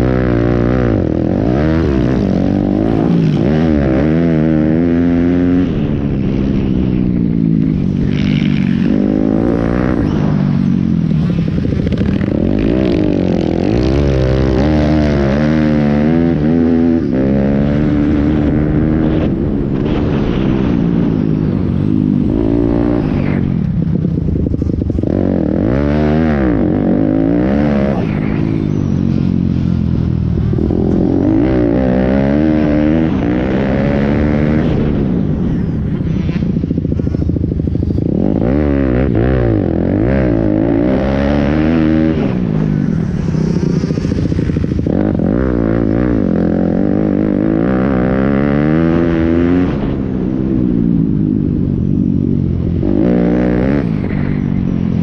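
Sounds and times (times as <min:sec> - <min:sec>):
pit bike engines revving: 0:00.0 - 0:55.0.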